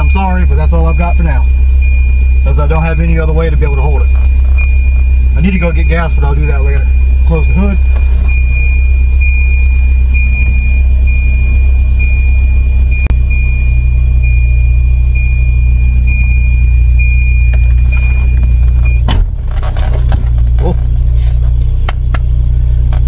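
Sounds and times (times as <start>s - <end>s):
steady high-pitched tone: 0.0s - 19.0s
car engine idling: 0.0s - 23.0s.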